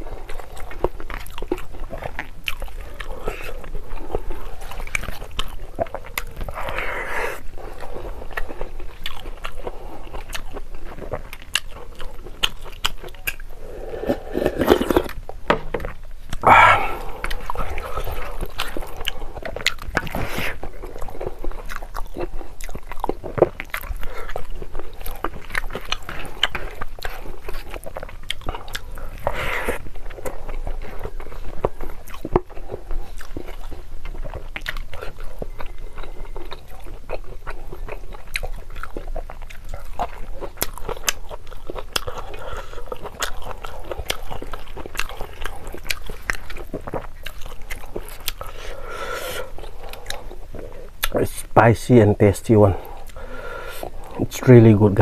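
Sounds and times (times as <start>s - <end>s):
close chewing of food: 0.0s - 55.0s.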